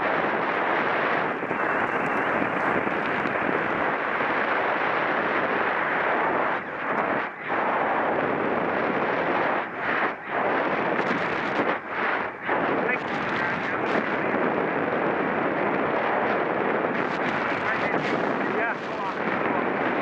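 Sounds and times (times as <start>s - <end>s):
wind blasting across microphone: 0.0s - 20.0s.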